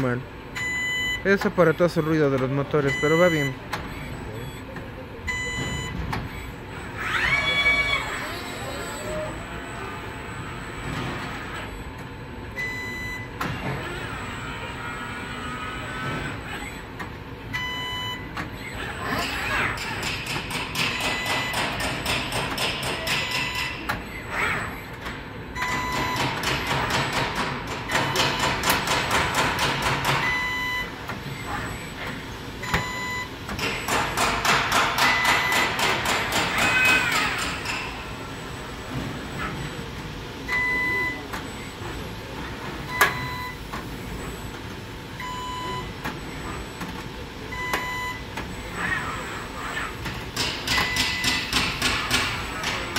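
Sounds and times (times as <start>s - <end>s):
robot motors whining: 2.9s - 22.2s, 23.0s - 26.9s, 29.6s - 34.0s, 35.2s - 52.9s.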